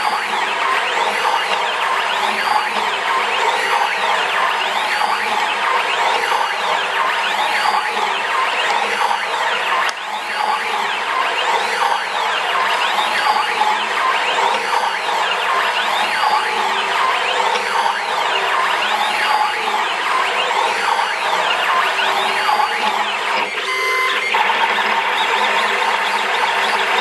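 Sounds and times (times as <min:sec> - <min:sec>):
machine motors whining: 0:00.0 - 0:27.0.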